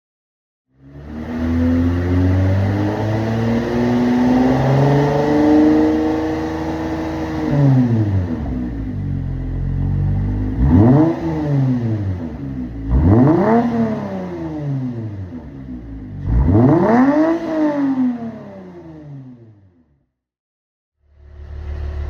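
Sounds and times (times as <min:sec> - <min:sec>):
car exhaust revving: 0:00.9 - 0:19.4.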